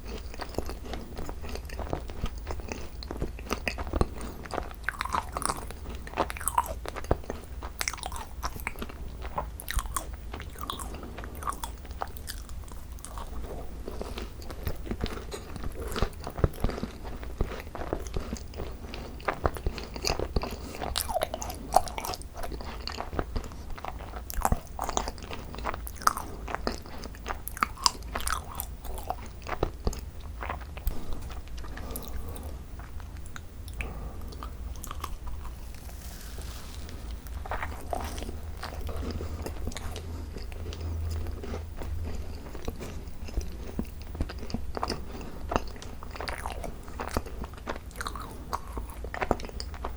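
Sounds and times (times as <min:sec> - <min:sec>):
chewing crunchy macarons: 0:00.0 - 0:49.9.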